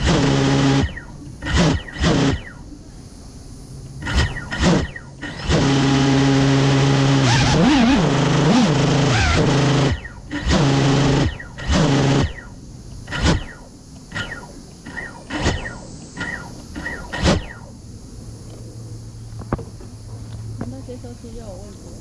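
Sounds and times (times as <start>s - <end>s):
drone motors revving and humming: 0.0s - 22.0s.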